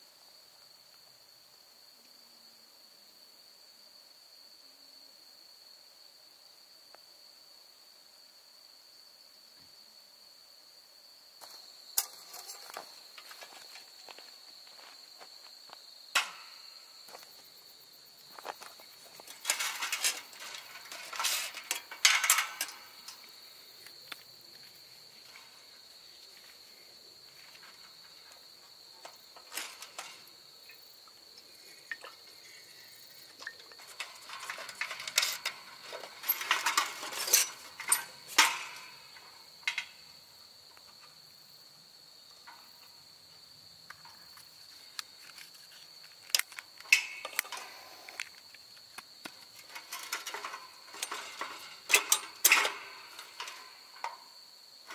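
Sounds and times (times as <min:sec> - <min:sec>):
high-pitched insect trill: 0:00.0 - 0:54.9.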